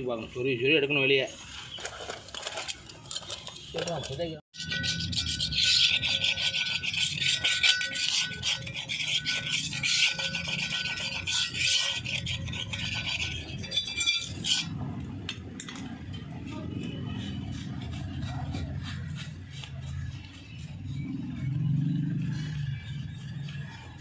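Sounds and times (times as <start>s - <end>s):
hand tool scraping metal drum: 1.4s - 14.8s, 15.8s - 24.0s.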